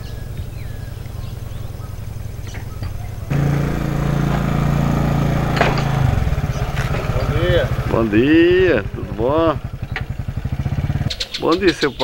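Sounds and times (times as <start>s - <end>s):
birds chirping: 0.0s - 12.0s
motorcycle engine running: 0.1s - 12.0s.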